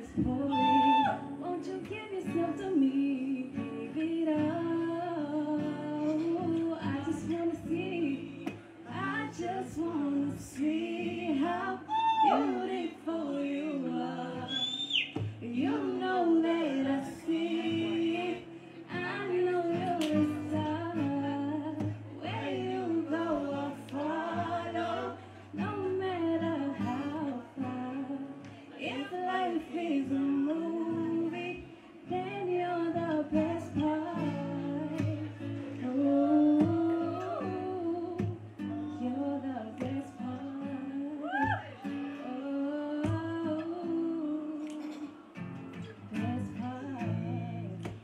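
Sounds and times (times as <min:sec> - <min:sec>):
acoustic guitar chords: 0:00.0 - 0:48.0
woman singing: 0:00.0 - 0:48.0.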